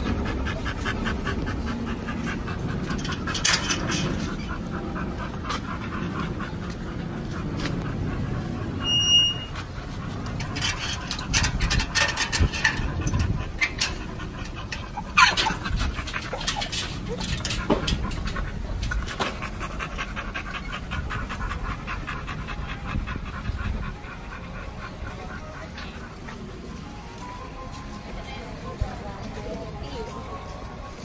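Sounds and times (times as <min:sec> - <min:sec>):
dog panting: 0:00.0 - 0:31.0.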